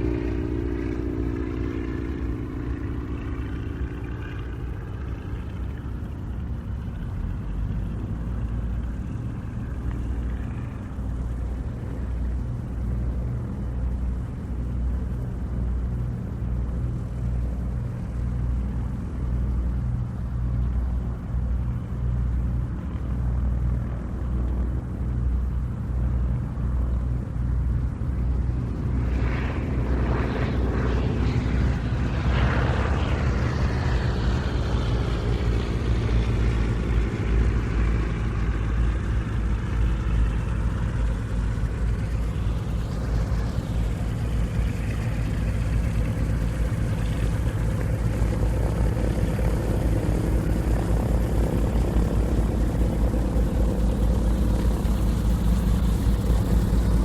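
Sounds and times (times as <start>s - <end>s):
airplane passing with falling whine: 0.0s - 57.0s
propeller airplane engines droning: 0.0s - 57.0s.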